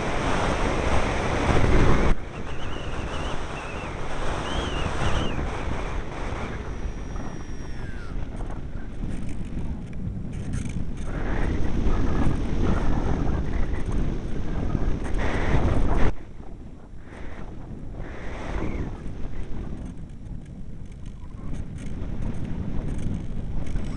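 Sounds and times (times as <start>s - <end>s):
strong wind buffeting microphone: 0.0s - 23.9s.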